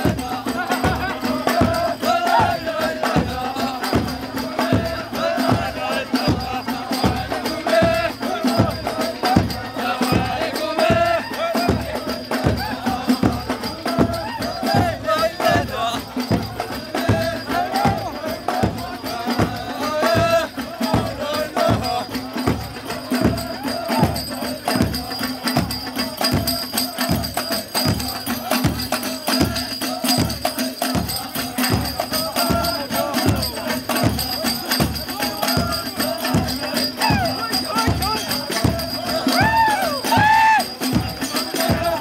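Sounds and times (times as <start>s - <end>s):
frame drums beaten: 0.0s - 42.0s
men's chorus singing: 0.0s - 42.0s.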